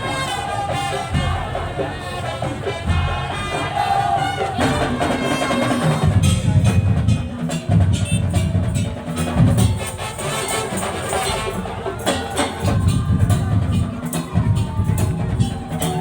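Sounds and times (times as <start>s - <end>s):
slit drum ensemble playing: 0.0s - 16.0s.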